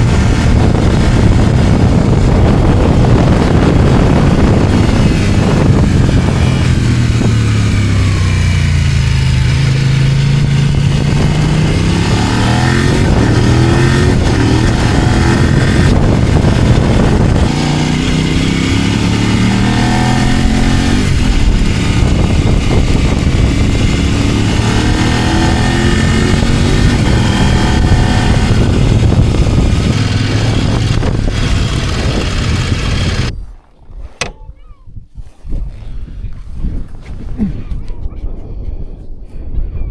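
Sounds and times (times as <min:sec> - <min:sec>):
motorcycle engine running: 0:00.0 - 0:34.6
heavy wind noise: 0:00.0 - 0:39.9.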